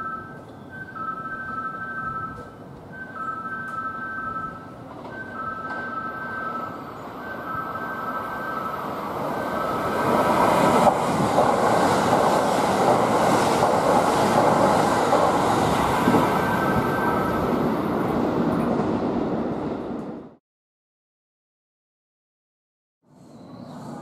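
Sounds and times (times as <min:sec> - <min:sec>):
train passing at high speed: 0:00.0 - 0:20.4, 0:23.1 - 0:24.0.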